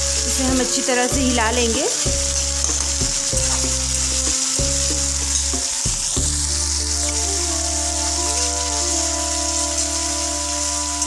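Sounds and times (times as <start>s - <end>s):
steel spatula stirring: 0.0s - 11.0s
vegetables sizzling in oil: 0.0s - 11.0s.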